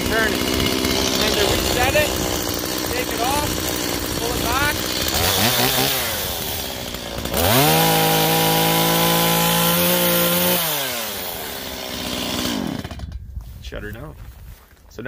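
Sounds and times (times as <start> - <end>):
chainsaw revving: 0.0 - 13.2.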